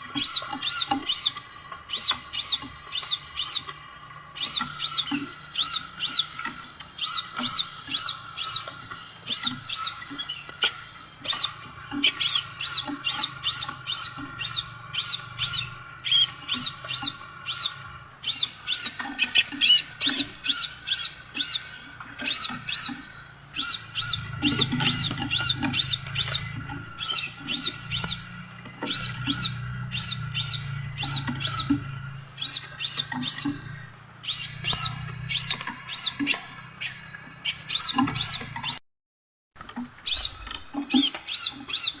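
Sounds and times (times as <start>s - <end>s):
bird whistled calls: 0.0s - 38.8s, 40.0s - 42.0s.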